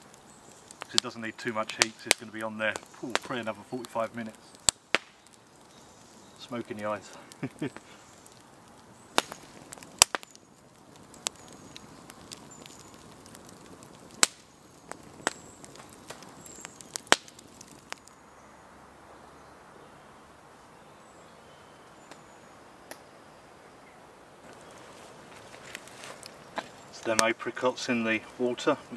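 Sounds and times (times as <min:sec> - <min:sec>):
campfire crackling and popping: 0:00.0 - 0:28.9.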